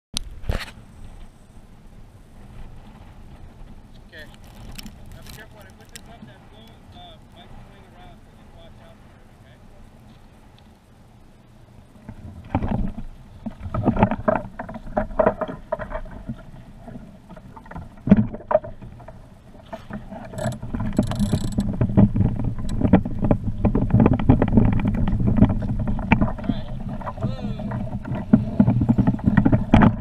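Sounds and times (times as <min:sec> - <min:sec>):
low rumble: 0:00.8 - 0:30.0.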